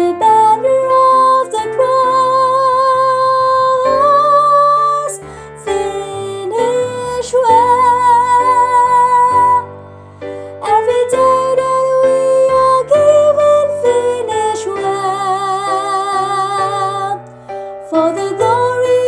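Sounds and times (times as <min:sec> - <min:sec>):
soprano singing with vibrato: 0:00.0 - 0:19.0.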